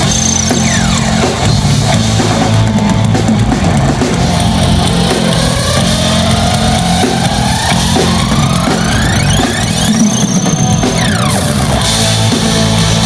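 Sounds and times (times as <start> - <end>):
live rock band playing: 0.0 - 13.0
rising pitch sweep: 0.0 - 13.0.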